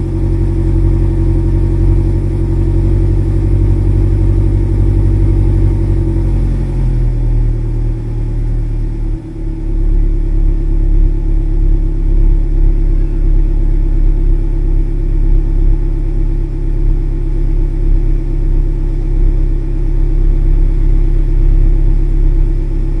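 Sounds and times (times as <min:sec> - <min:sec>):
car exhaust idling: 0:00.0 - 0:23.0.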